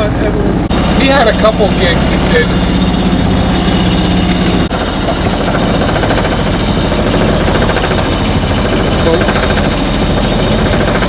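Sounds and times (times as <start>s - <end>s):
boat engine chugging: 0.0s - 11.0s
low hum: 0.0s - 11.0s.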